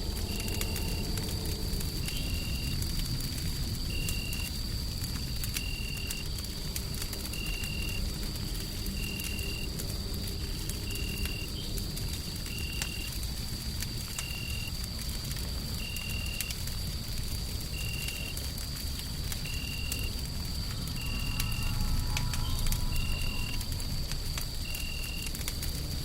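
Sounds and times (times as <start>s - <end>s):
deep rumble of white noise: 0.0s - 26.0s
wood fire crackling and popping: 0.0s - 26.0s.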